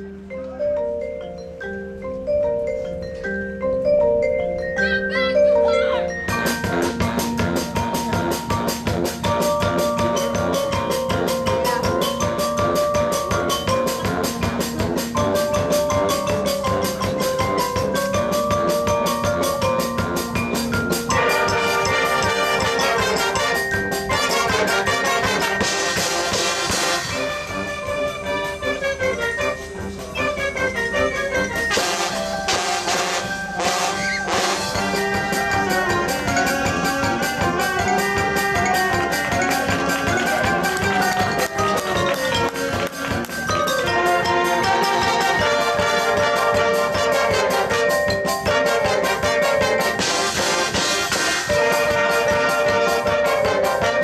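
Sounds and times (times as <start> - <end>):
drumline beat: 6.3 - 29.3, 30.0 - 54.0
marching band brass chords: 6.3 - 54.0.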